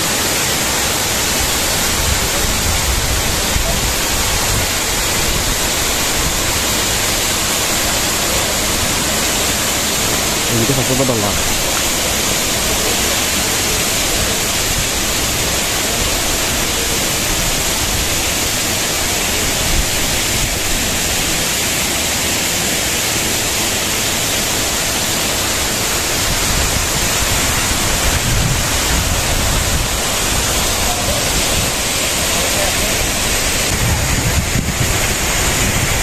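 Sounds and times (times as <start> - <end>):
waterfall pouring: 0.0 - 36.0.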